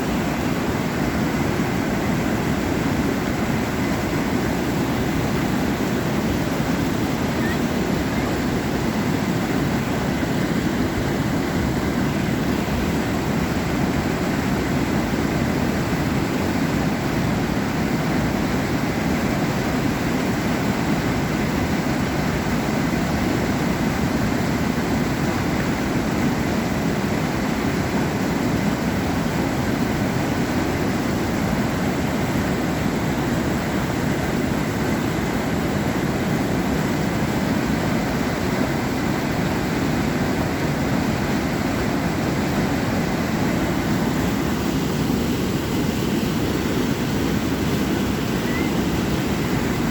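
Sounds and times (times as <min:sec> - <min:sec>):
water rushing over a dam: 0:00.0 - 0:49.9.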